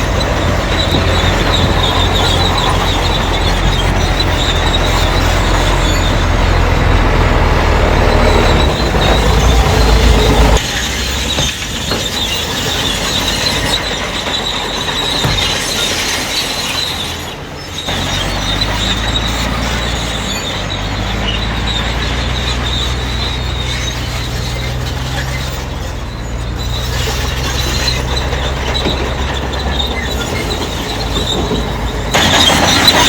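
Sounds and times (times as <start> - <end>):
bulldozer diesel engine running: 0.0 - 33.0
steel tracks squealing: 0.0 - 33.0.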